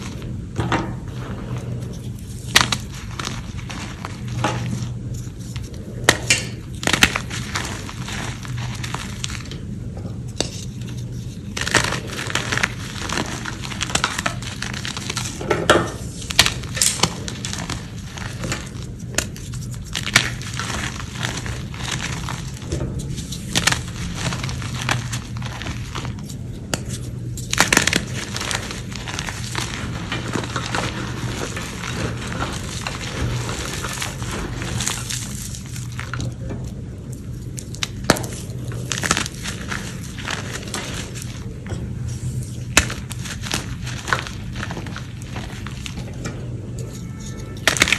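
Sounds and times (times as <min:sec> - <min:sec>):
hands crumbling chalk: 0:00.0 - 0:47.9.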